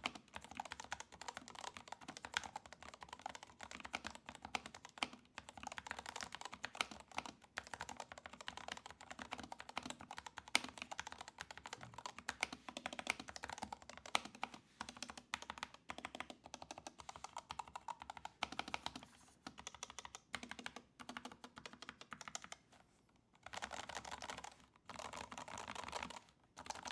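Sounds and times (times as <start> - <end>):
fast typing on mechanical keyboard: 0.0 - 22.6, 23.4 - 26.9.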